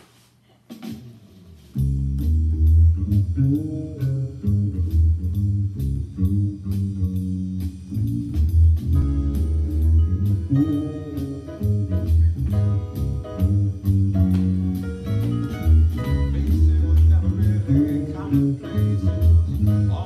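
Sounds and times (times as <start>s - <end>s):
accompaniment with steady beat: 0.7s - 20.0s
fretless bass line: 1.6s - 20.0s.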